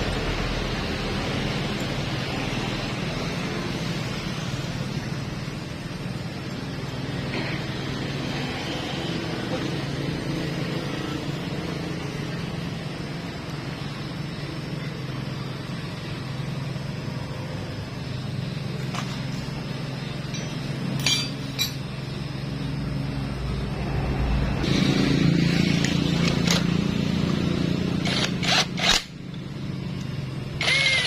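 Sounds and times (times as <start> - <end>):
engine-like hum: 0.0 - 31.0.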